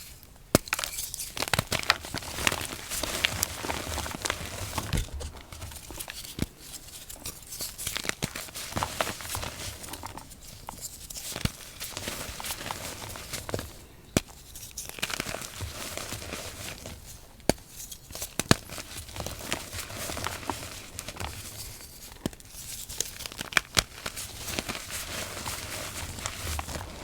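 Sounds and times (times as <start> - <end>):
chalk crunching and crumbling: 0.5 - 27.0.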